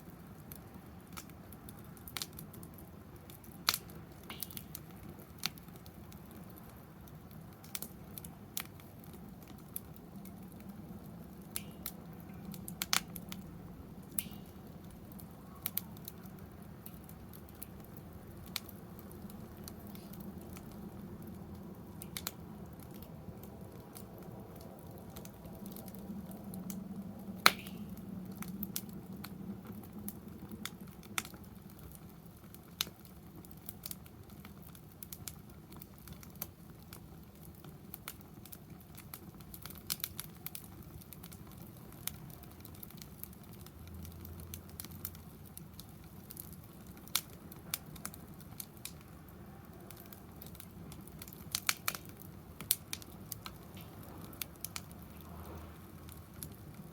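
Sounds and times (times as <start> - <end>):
fire pops and snaps: 0.0 - 56.9
wood fire crackling: 0.0 - 56.9.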